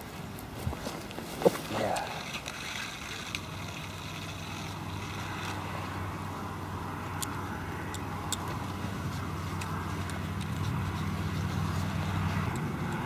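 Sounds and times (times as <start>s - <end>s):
motor vehicle engine humming: 0.0s - 13.0s
road noise: 0.0s - 13.0s.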